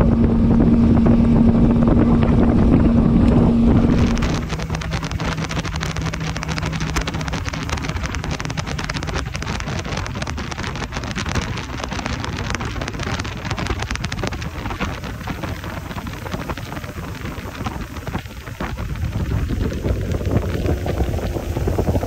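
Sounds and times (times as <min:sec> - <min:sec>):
outboard motor low hum: 0:00.0 - 0:22.0
wind buffeting microphone: 0:00.0 - 0:22.0.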